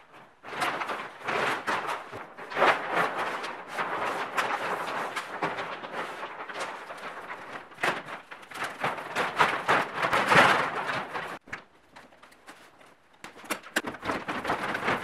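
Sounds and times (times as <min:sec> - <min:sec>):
plastic bag crinkling and rustling: 0:00.1 - 0:15.0.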